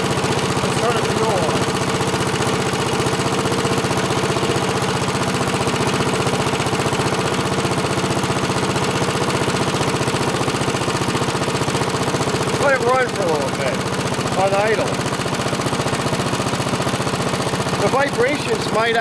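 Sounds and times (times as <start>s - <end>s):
lawn mower engine idling: 0.0s - 19.0s.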